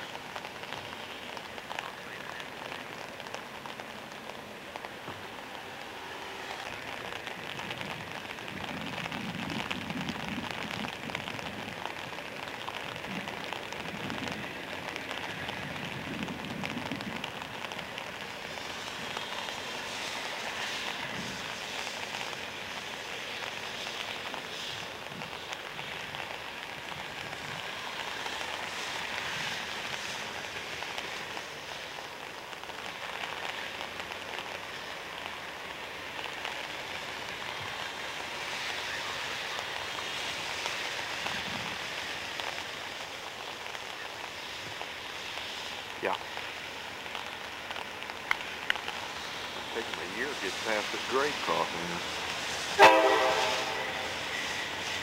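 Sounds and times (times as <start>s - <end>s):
diesel train low rumble: 0.0s - 55.0s
steady hiss: 0.0s - 55.0s.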